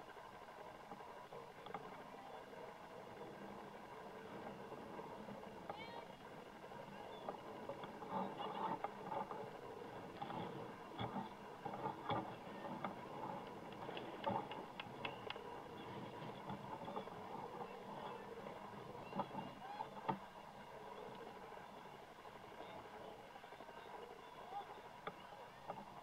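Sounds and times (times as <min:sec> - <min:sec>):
low steady background noise: 0:00.0 - 0:26.0.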